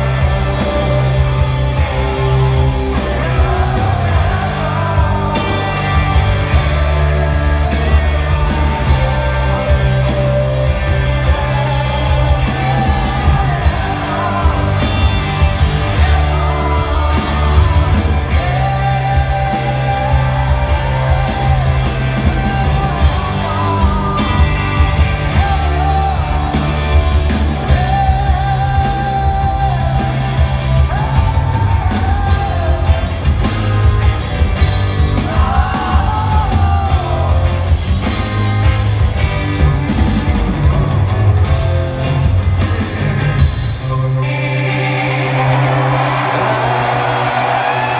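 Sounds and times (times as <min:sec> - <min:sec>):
bass guitar: 0:00.0 - 0:47.9
drums: 0:00.0 - 0:47.9
electric guitar: 0:00.0 - 0:47.9.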